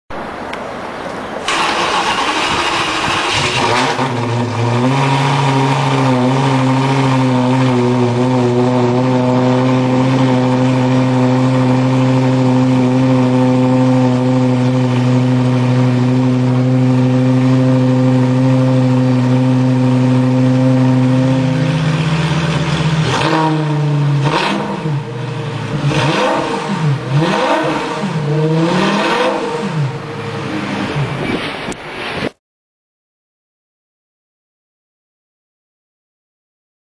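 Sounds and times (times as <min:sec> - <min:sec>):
car engine idling: 0:01.4 - 0:31.2
sports car engine revving: 0:01.4 - 0:31.4.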